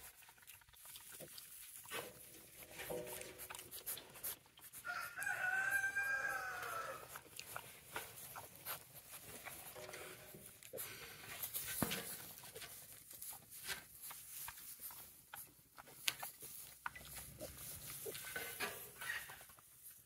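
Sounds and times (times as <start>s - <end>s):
rustling in straw: 0.0s - 20.0s.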